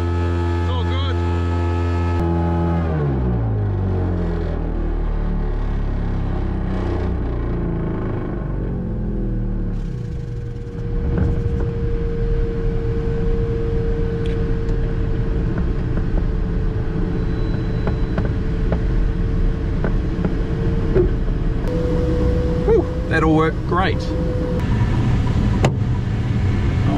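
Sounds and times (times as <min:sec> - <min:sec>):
glider engine and propeller drone: 0:00.0 - 0:26.9.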